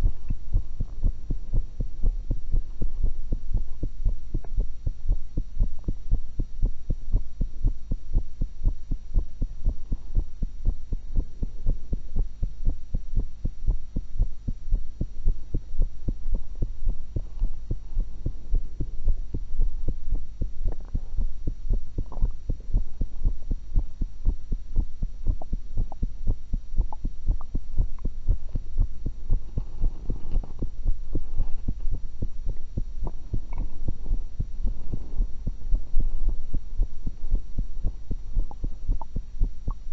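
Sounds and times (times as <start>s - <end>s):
heartbeat thumps: 0.0s - 39.9s
low hum: 0.0s - 39.9s.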